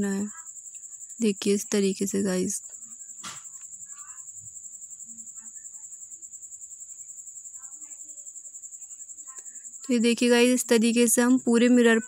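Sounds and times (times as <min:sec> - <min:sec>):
pulsing high insect trilling: 0:00.0 - 0:12.0.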